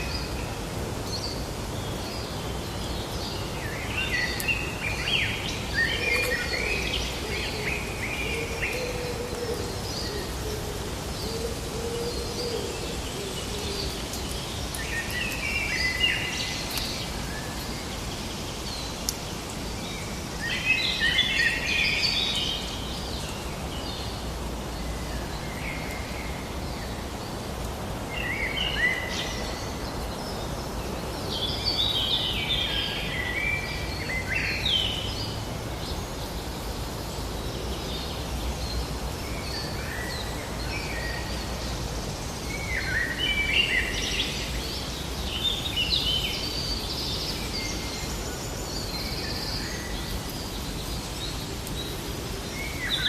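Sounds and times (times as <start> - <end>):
outdoor ambience hiss: 0.0 - 53.0
songbirds singing: 0.0 - 53.0.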